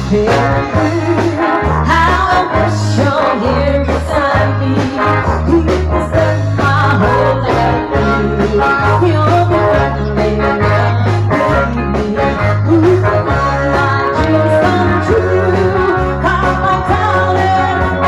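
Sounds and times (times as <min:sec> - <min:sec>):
bass line: 0:00.0 - 0:18.0
live band playing upbeat song: 0:00.0 - 0:18.0.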